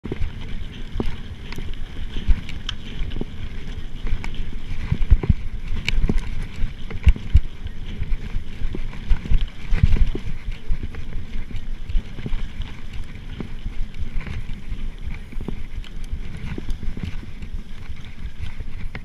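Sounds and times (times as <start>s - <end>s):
bike rattling over bumps: 0.0s - 19.0s
rumble of tyres and wind: 0.0s - 19.0s.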